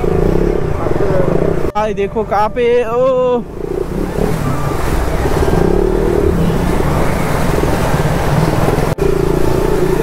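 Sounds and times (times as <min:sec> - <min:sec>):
motorcycle engine running: 0:00.0 - 0:02.4, 0:03.4 - 0:10.0.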